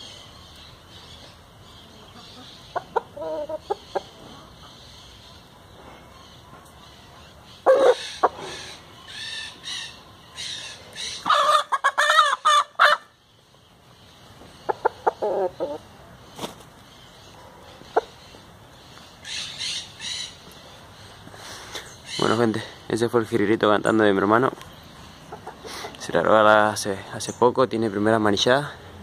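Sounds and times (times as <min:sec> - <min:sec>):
small bird singing: 0:00.0 - 0:11.4, 0:12.4 - 0:29.0
lower bird calls: 0:00.0 - 0:27.5.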